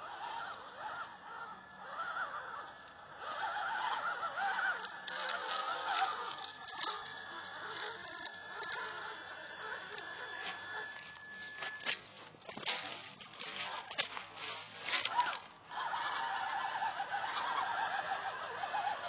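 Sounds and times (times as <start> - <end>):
leaves and twigs crackling: 0.0 - 19.0
rc car electric motor whining: 0.0 - 19.0.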